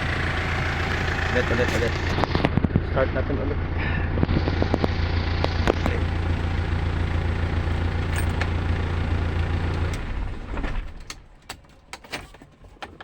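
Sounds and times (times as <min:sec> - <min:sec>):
car engine running: 0:00.0 - 0:11.4.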